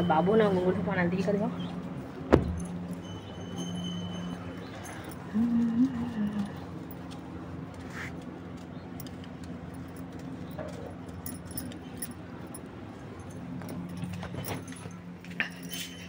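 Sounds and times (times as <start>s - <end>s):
light metallic jingling: 0.0s - 7.4s, 8.7s - 16.0s
steady low hum: 0.0s - 16.0s.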